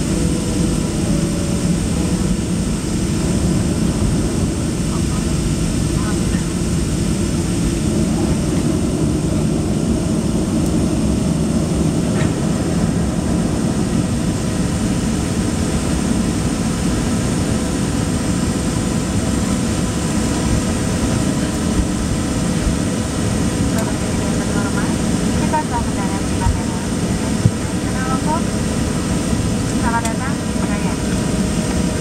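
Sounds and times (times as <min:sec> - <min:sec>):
aircraft cabin rumble: 0:00.0 - 0:32.0
jet engines low drone: 0:00.0 - 0:32.0.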